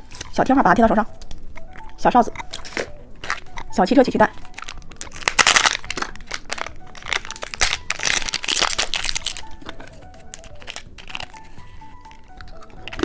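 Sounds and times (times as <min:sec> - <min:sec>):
light background music: 0:00.0 - 0:13.0
plastic packaging crinkling: 0:01.2 - 0:13.0.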